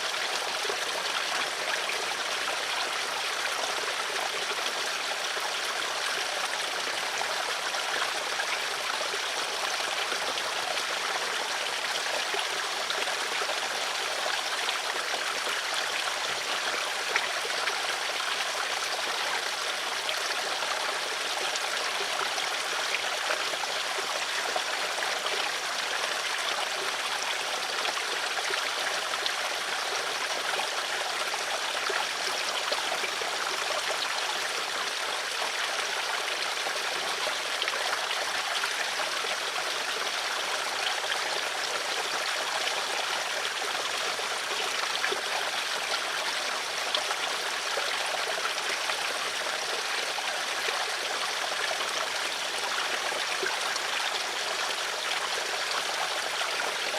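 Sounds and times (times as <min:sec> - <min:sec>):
stream water rushing and babbling: 0:00.0 - 0:56.9.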